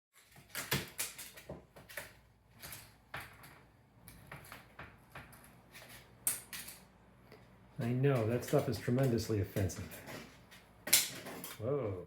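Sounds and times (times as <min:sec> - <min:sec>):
objects clicking and clattering on desk: 0:00.2 - 0:06.9, 0:08.2 - 0:11.6.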